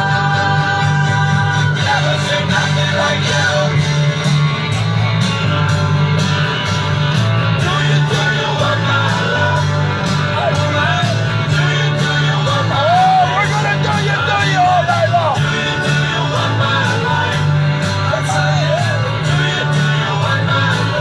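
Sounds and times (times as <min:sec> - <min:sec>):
person singing: 0:00.0 - 0:04.2, 0:07.6 - 0:21.0
rock guitar: 0:00.0 - 0:21.0
steady drum beat: 0:00.0 - 0:21.0.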